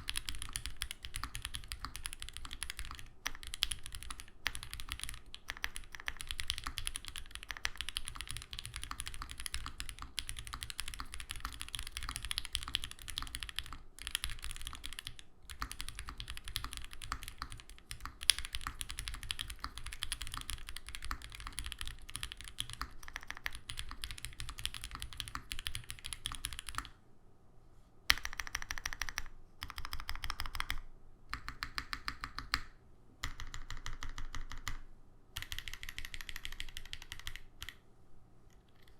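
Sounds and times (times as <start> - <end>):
fast mechanical keyboard typing: 0.0 - 26.9, 28.1 - 34.8, 35.4 - 37.8, 38.6 - 38.9.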